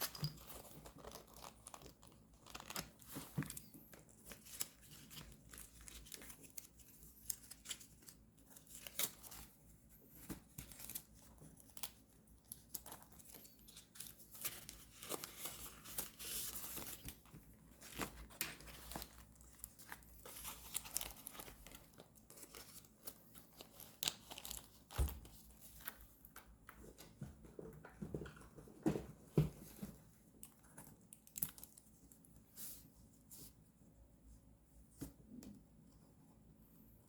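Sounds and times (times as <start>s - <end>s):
paper rustling and crinkling: 0.0s - 33.6s.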